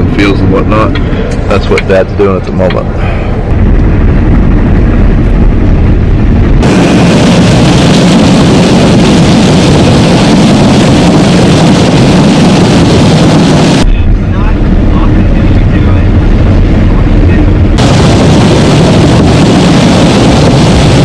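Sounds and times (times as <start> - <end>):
harvester engine rumbling: 0.0 - 21.0.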